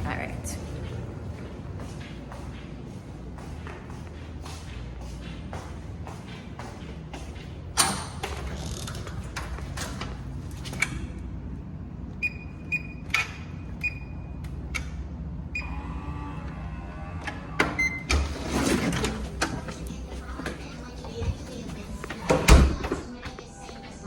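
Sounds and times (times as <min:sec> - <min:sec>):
clothes dryer humming: 0:00.0 - 0:24.0.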